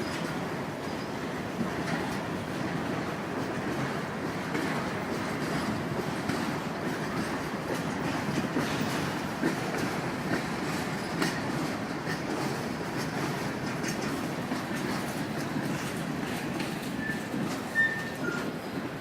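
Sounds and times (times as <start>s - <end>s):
train wheels rumbling on rail: 0.0s - 19.0s
wheels clicking over rail joints: 0.0s - 19.0s.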